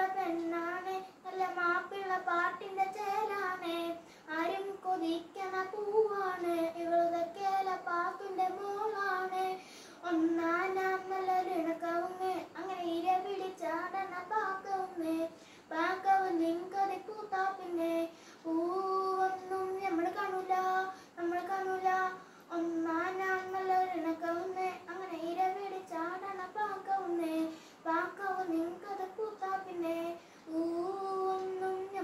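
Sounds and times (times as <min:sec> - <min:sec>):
boy singing: 0:00.0 - 0:32.0.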